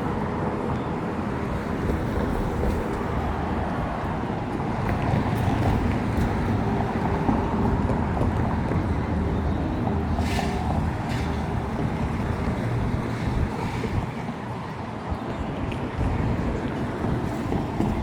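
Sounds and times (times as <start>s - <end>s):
low traffic rumble: 0.0s - 18.0s
wind buffeting microphone: 0.0s - 18.0s.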